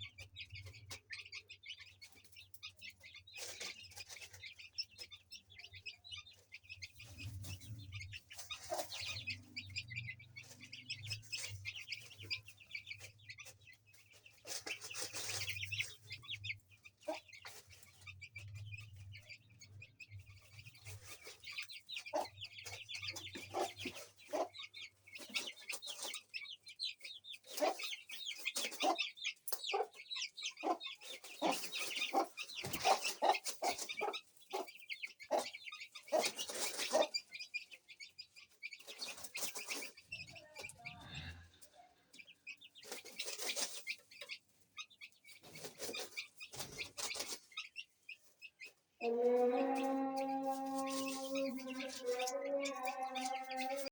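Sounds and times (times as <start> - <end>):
chicks peeping: 0.0 - 53.9
hen clucking: 0.0 - 53.9.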